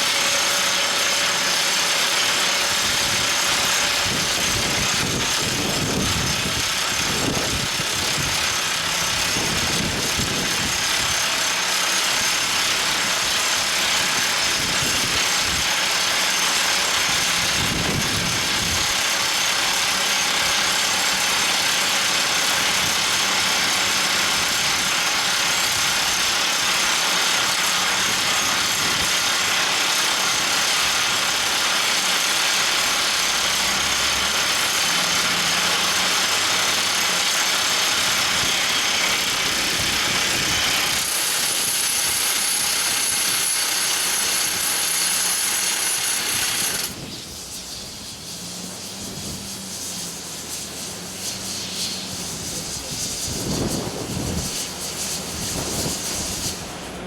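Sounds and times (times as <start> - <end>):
drill rig engine running: 0.0 - 57.0.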